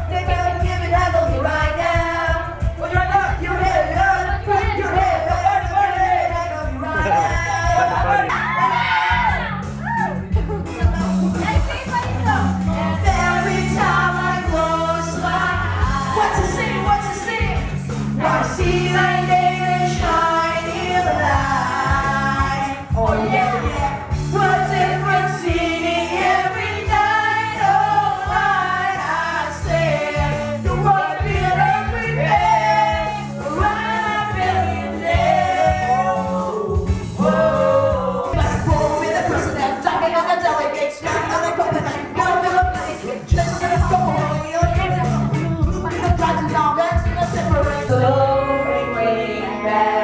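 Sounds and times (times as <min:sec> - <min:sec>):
backing music: 0:00.0 - 0:50.0
people singing along: 0:00.0 - 0:50.0.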